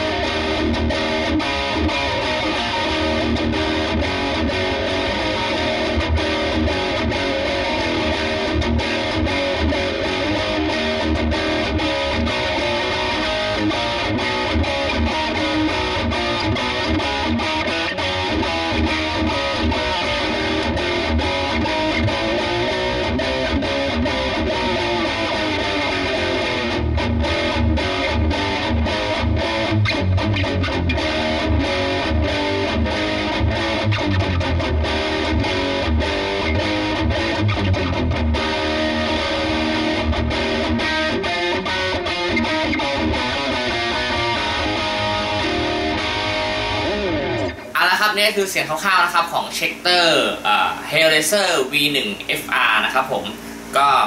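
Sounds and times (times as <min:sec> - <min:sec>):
distorted electric guitar riff: 0:00.0 - 0:54.0.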